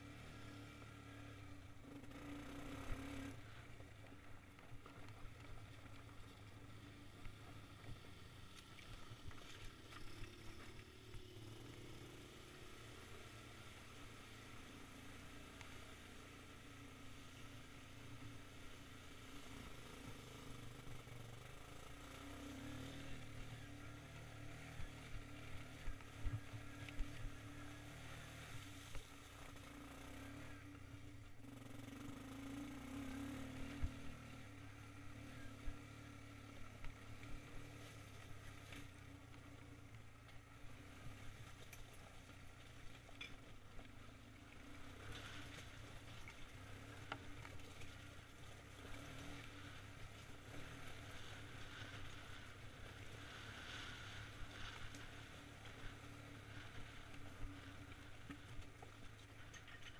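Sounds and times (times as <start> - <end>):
faint atv engine running: 0.0 - 59.9.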